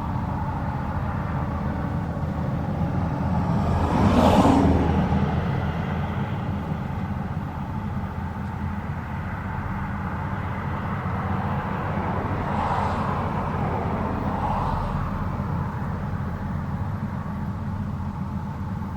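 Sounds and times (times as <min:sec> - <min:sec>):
engine rumbling: 0:00.0 - 0:18.9.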